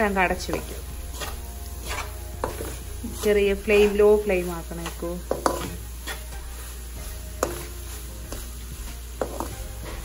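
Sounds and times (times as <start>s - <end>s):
spoon stirring paste in pan: 0.0s - 10.0s.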